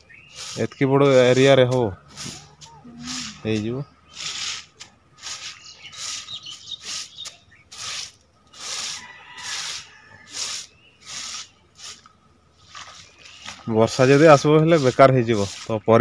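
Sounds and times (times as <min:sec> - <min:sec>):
hand broom swishing over slurry: 0:00.0 - 0:16.0.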